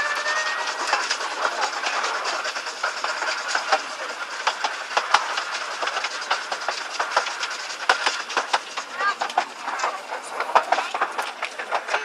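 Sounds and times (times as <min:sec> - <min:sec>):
train wheels rumbling on track: 0:00.0 - 0:12.0
wheel clicks and clatters: 0:00.0 - 0:12.0.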